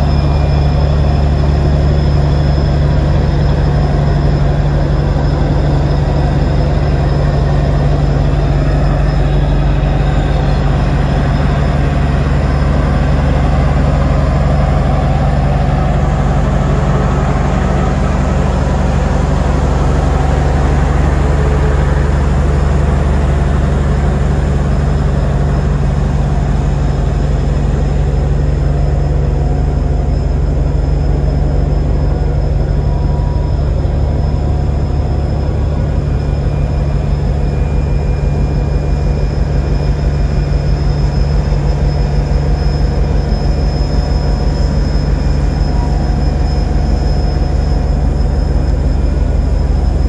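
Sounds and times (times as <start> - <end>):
diesel locomotive engine running: 0.0 - 50.0.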